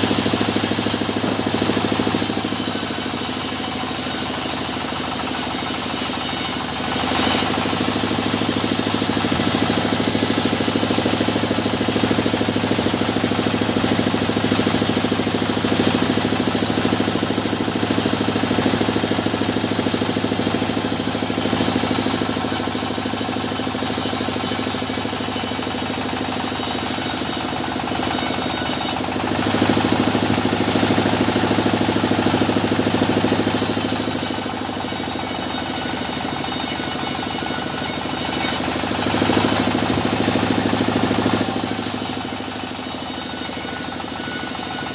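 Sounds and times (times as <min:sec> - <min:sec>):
sawmill machine hum: 0:00.0 - 0:44.9.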